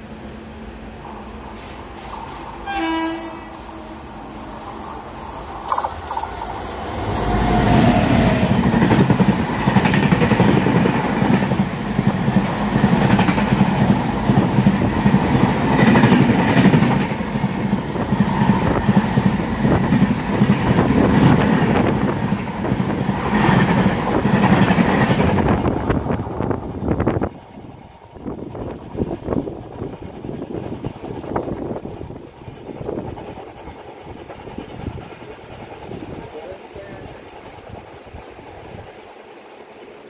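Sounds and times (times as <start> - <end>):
train wheel clatter and rumble: 0.9 - 39.1.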